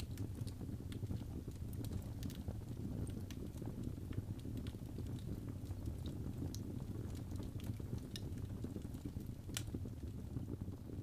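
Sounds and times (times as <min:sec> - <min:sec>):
low rumble of fire: 0:00.0 - 0:11.0
wood fire crackling and popping: 0:00.0 - 0:11.0.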